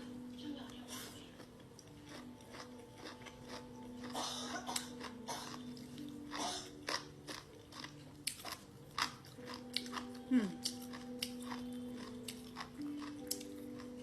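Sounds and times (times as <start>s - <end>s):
crunchy chewing and biting: 1.4s - 14.0s.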